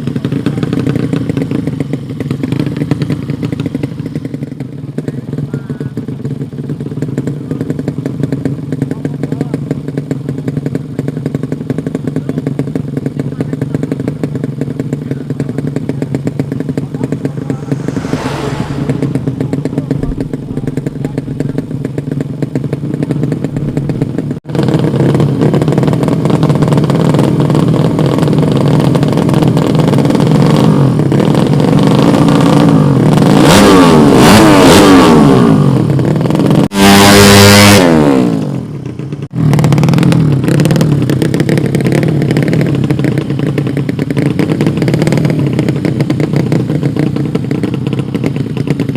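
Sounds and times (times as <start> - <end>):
motorcycle engines revving: 0.0 - 48.9.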